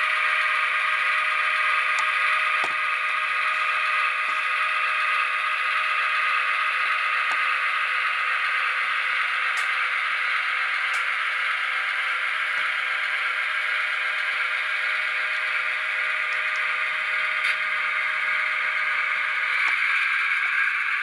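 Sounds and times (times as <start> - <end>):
model diesel engine through small speaker: 0.0 - 21.0.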